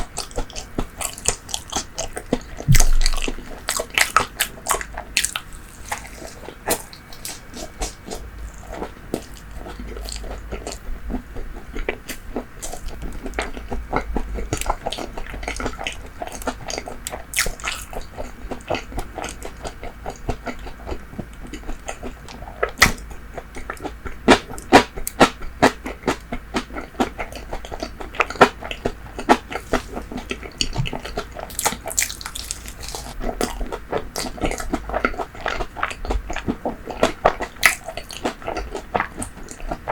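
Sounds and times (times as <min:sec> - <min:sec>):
close-miked chewing: 0:00.0 - 0:39.9.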